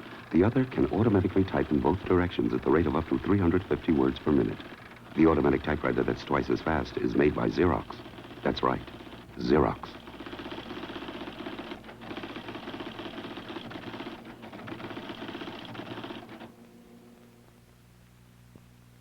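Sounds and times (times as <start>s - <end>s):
automatic typewriter typing: 0.0s - 16.6s.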